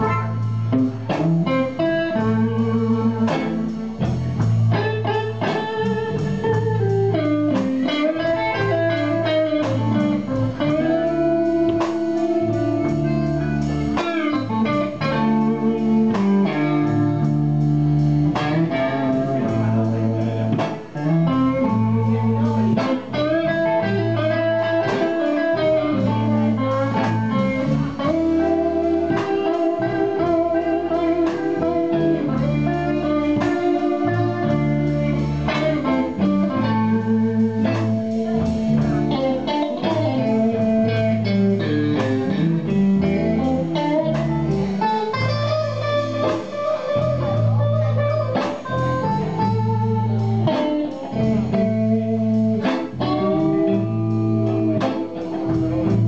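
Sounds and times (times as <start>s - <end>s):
bass line: 0.0s - 56.0s
drums: 0.0s - 56.0s
electric guitars: 0.0s - 56.0s.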